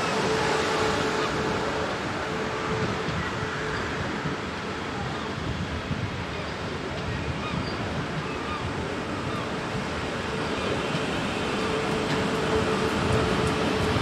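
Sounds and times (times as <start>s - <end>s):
train rumbling on tracks: 0.0s - 14.0s.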